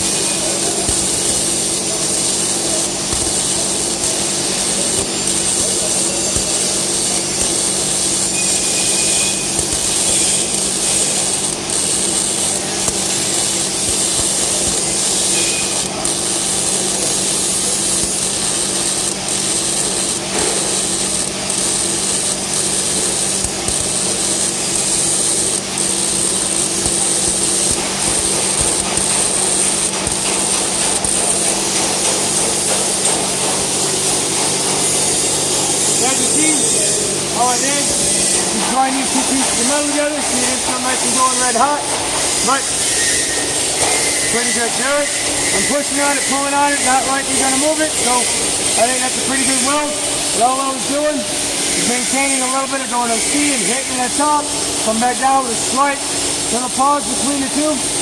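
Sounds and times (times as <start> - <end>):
welding arc crackling and sizzling: 0.0 - 58.0.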